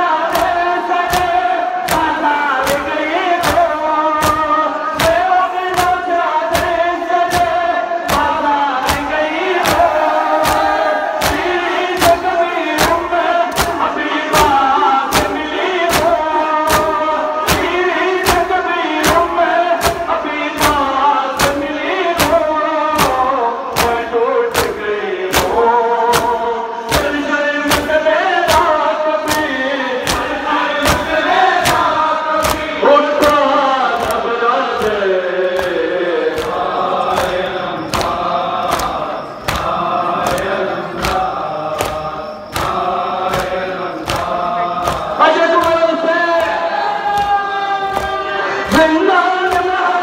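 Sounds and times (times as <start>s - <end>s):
men chanting in unison: 0.0s - 50.0s
hands slapping chests: 0.2s - 49.7s.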